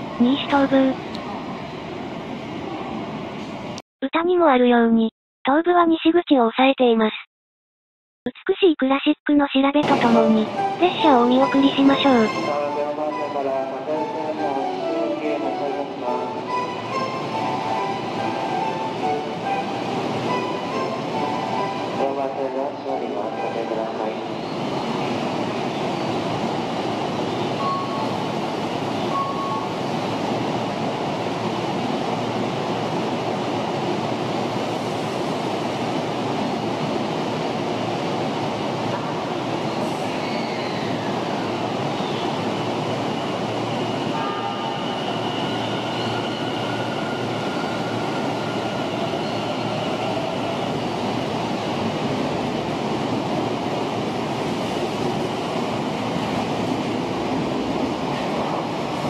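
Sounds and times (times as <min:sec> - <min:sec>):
train and station rumble: 0:00.0 - 0:05.0, 0:08.3 - 0:59.0.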